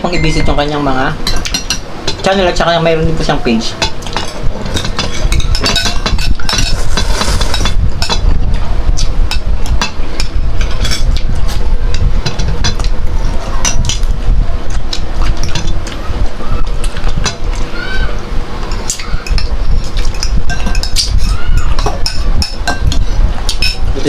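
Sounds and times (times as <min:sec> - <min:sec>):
utensils clinking against a bowl: 0:00.0 - 0:08.3, 0:09.0 - 0:14.1, 0:14.7 - 0:16.0, 0:18.6 - 0:24.0.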